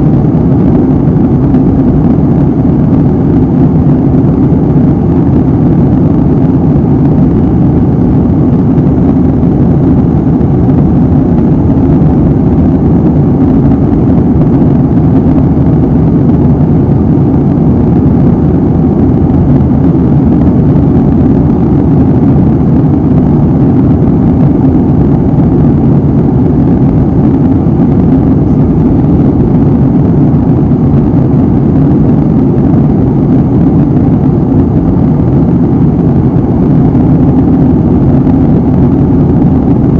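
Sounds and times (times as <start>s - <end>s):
jet airliner cabin drone: 0.0s - 39.9s.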